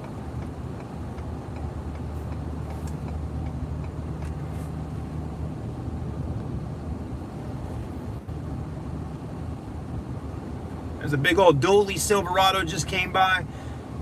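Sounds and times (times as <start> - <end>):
truck cabin drone with road noise: 0.0 - 14.0.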